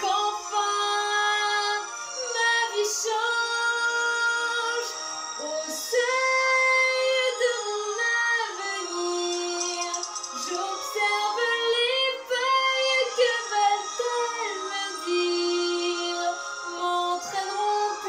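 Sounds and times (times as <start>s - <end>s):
woman singing slow ballad: 0.0s - 18.0s.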